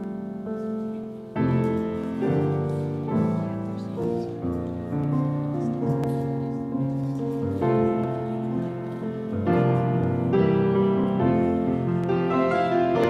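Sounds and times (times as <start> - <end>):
piano playing slow piece: 0.0 - 13.0.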